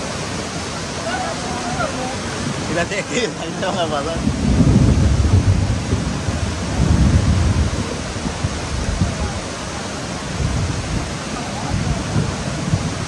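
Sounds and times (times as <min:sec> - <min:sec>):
river torrent roaring: 0:00.0 - 0:13.0.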